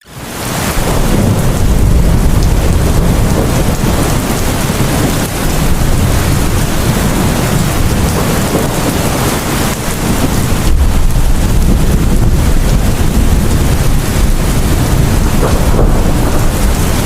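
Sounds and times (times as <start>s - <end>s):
heavy rain: 0.0s - 17.0s
low rumble of thunder: 0.6s - 17.0s.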